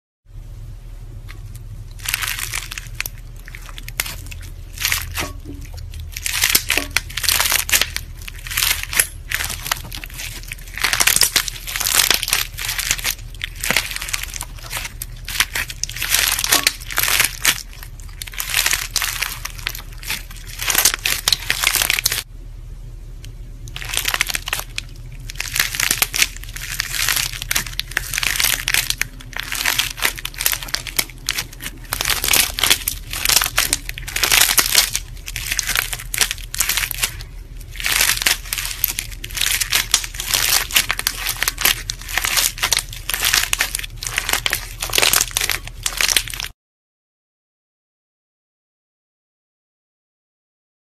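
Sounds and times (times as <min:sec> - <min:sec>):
faint low hum: 0:00.3 - 0:46.5
slime crunching and crackling: 0:01.1 - 0:22.3, 0:23.6 - 0:46.6.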